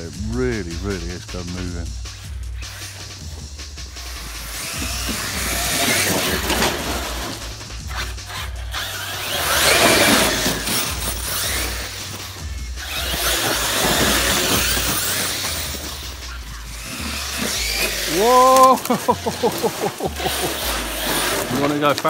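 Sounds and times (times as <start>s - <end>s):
toy truck motor whining: 2.2s - 22.0s
tyres throwing up gravel: 2.6s - 22.0s.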